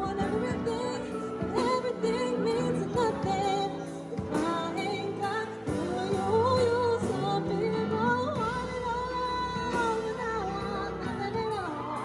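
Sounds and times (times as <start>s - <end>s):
person singing with accompaniment: 0.0s - 12.0s.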